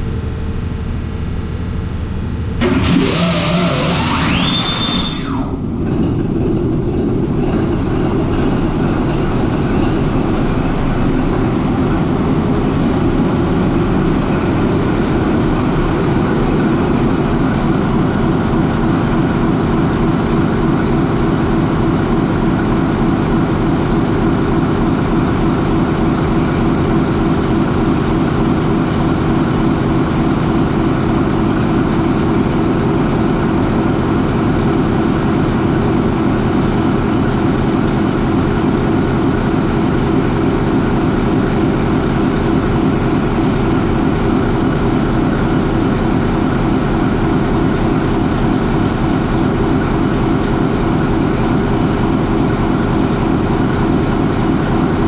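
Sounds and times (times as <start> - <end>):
diesel engine idling drone: 0.0 - 55.0.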